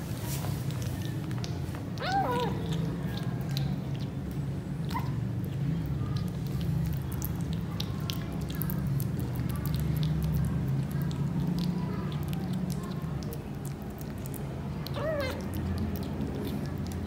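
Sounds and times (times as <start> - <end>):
kitten chewing wet food: 0.0 - 17.0
lip-smacking clicks: 1.2 - 5.1, 6.1 - 17.0.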